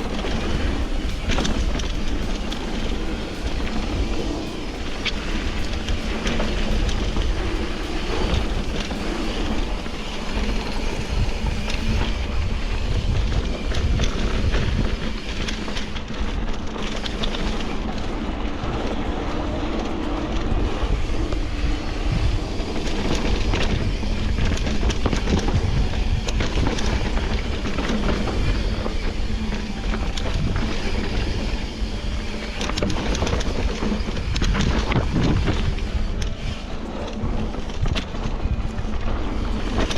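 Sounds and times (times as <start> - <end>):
heavy low riding rumble: 0.0 - 39.9.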